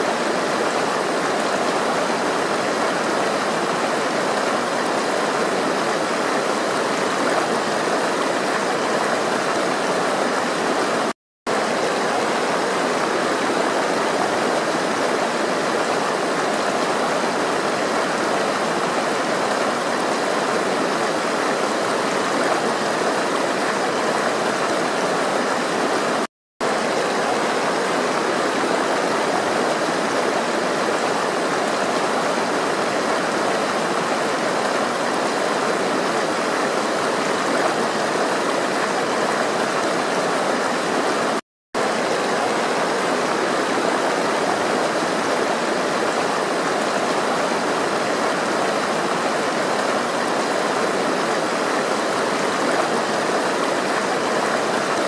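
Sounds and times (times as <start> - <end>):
stream water rushing and gurgling: 0.0 - 55.0.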